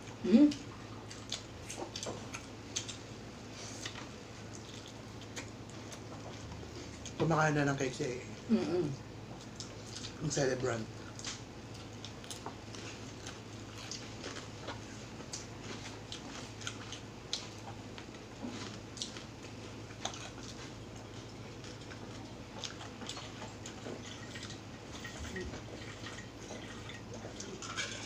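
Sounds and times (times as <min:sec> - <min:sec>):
chewing with crunches: 0:00.0 - 0:07.2, 0:09.2 - 0:28.0
steady low hum: 0:00.0 - 0:28.0.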